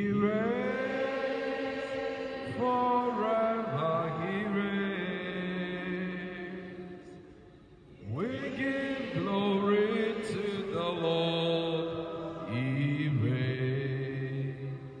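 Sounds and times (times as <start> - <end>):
person chanting: 0.0 - 7.2, 8.0 - 15.0.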